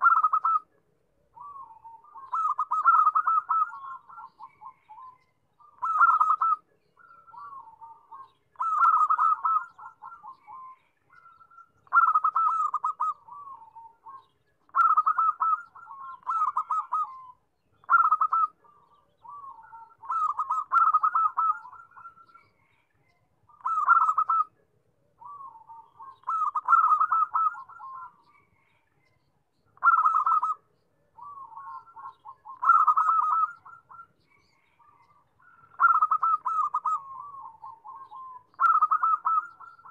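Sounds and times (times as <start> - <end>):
dove cooing: 0.0 - 0.7, 1.4 - 22.6, 23.5 - 24.6, 25.2 - 28.7, 29.8 - 39.9.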